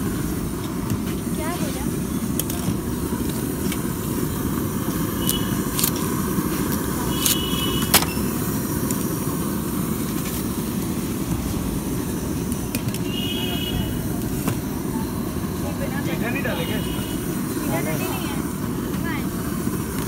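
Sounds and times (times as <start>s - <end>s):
street background rumble: 0.0s - 20.0s.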